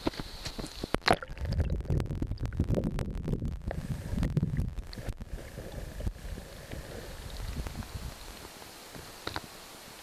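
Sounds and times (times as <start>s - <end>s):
muffled underwater river gurgling: 0.3s - 10.0s.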